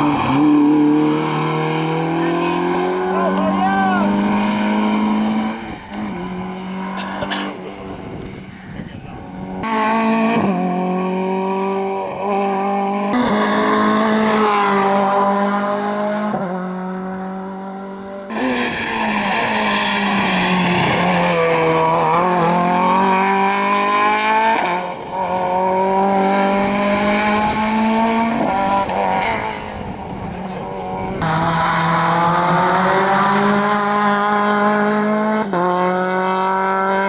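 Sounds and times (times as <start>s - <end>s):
rally car engines at high revs: 0.0s - 37.0s.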